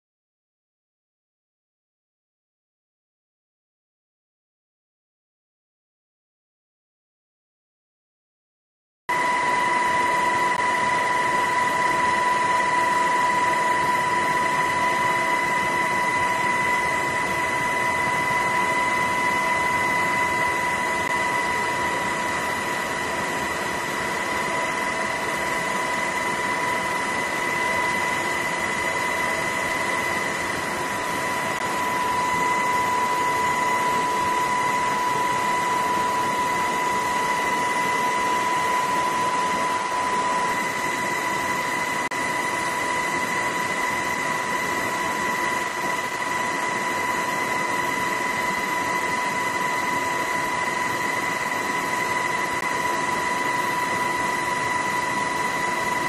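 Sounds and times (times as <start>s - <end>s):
high-pitched whine: 9.1s - 56.0s.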